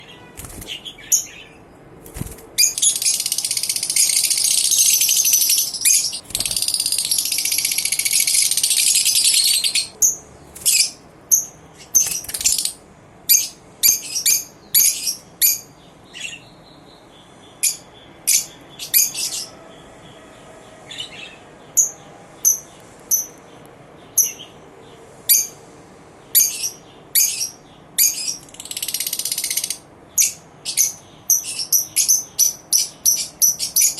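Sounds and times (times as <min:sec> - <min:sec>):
lovebirds high chirps: 0:00.0 - 0:19.6, 0:20.9 - 0:25.6, 0:26.3 - 0:33.9
lovebirds shrill chatter: 0:00.0 - 0:25.6, 0:26.3 - 0:33.9.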